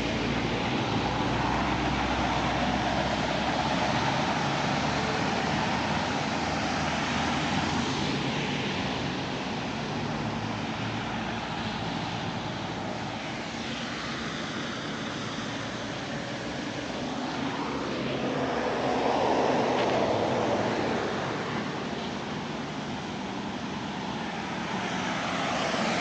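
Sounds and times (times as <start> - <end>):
steady road traffic: 0.0 - 26.0.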